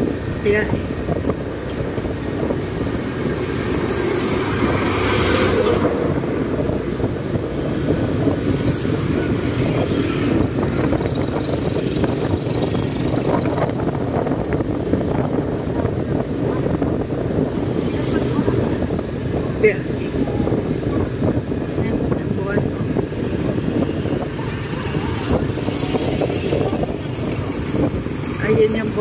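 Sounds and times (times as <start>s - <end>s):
motorcycle engine and road noise: 0.0s - 29.0s
rushing wind: 0.0s - 29.0s.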